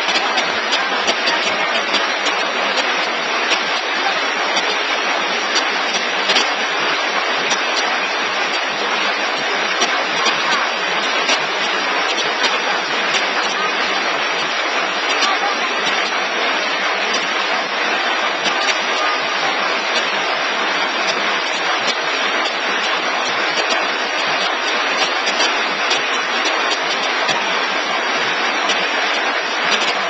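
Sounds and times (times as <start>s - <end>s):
machine running: 0.0s - 30.0s.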